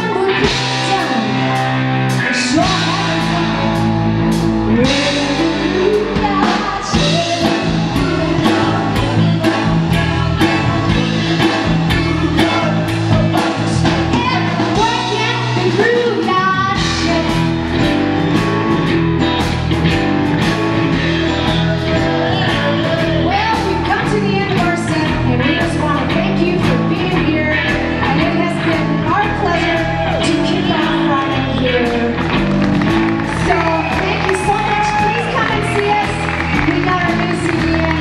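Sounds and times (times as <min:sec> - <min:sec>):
woman singing: 0:00.0 - 0:18.0, 0:20.8 - 0:32.5, 0:33.3 - 0:38.0
bass guitar: 0:00.0 - 0:38.0
electric guitar: 0:00.0 - 0:38.0
keyboard: 0:00.0 - 0:38.0.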